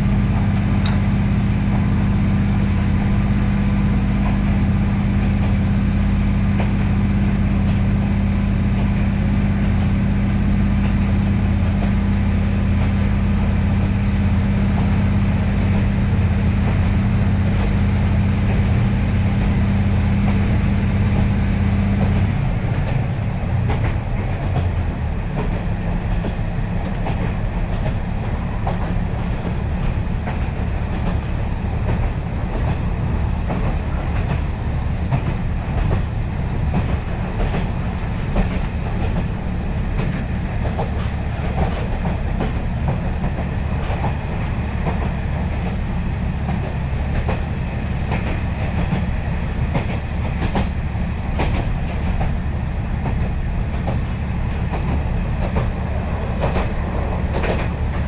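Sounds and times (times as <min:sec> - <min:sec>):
diesel engine drone: 0:00.0 - 0:58.0
train wheels clickety-clack: 0:00.0 - 0:58.0.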